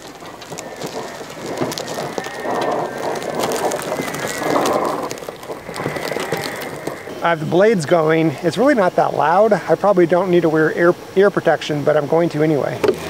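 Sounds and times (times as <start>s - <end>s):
mower tyres crushing grass: 0.0s - 10.8s, 11.9s - 13.0s.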